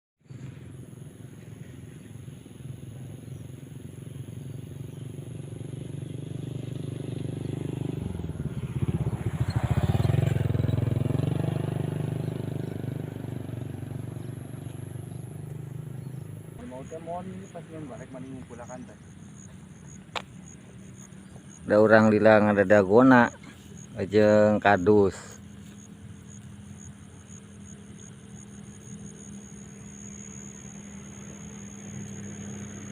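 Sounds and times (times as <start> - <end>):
steady low hum: 0.2 - 11.2, 12.0 - 32.9
vehicle engine passing by: 0.2 - 32.9
high-pitched insect trill: 0.3 - 32.9.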